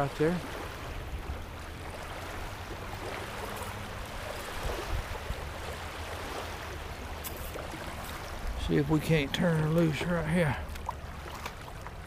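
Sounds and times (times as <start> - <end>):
small waves lapping: 0.0 - 12.0
wind buffeting microphone: 0.0 - 12.0.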